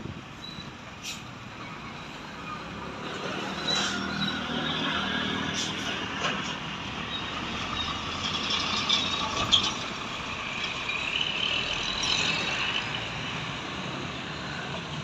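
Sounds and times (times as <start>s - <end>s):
heavy road traffic: 0.0s - 15.0s.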